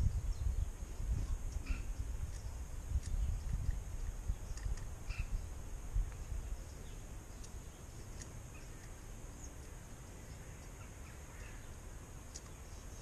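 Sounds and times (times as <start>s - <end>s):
faint bird chirps: 0.0s - 3.6s, 4.2s - 5.5s, 6.2s - 13.0s
wind rumbling on microphone: 0.0s - 13.0s.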